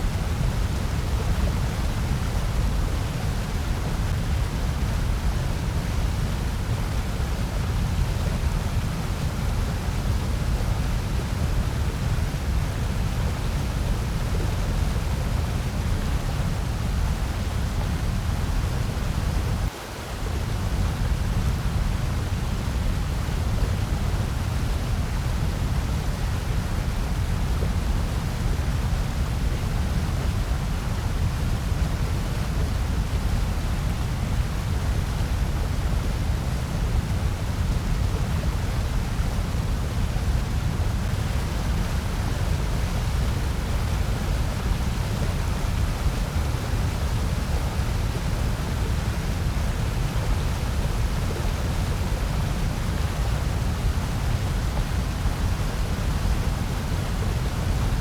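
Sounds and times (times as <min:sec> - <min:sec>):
white noise: 0:00.0 - 0:58.0.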